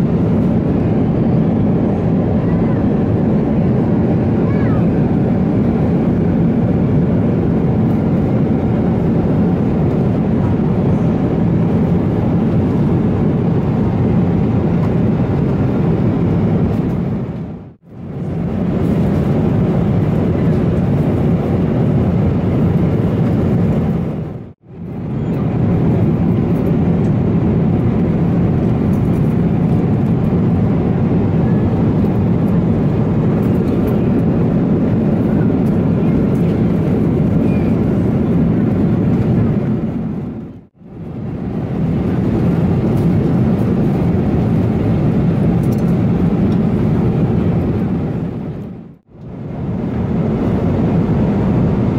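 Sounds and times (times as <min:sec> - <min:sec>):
airliner cabin noise: 0:00.0 - 0:51.9.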